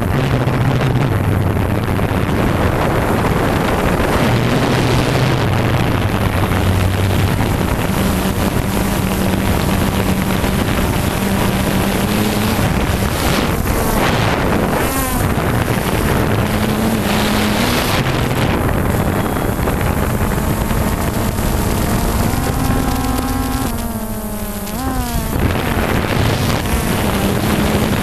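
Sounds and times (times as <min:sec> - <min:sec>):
drone propellers buzzing: 0:00.0 - 0:28.0
wind on microphone: 0:00.0 - 0:28.0.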